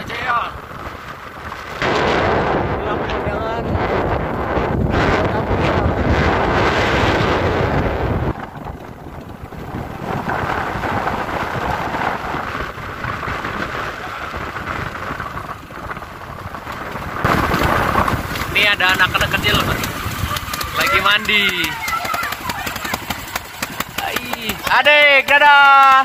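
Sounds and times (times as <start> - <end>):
wind rushing over microphone: 0.0 - 25.9
road noise: 0.0 - 26.0.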